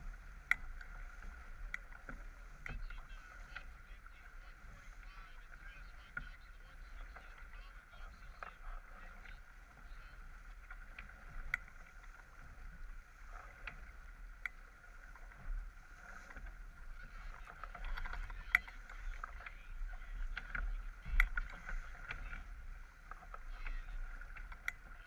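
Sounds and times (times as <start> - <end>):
water rushing along boat hull: 0.0 - 25.0.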